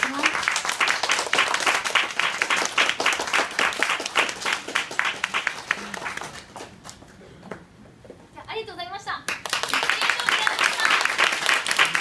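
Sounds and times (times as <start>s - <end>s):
audience applauding: 0.0s - 7.0s, 9.3s - 12.0s.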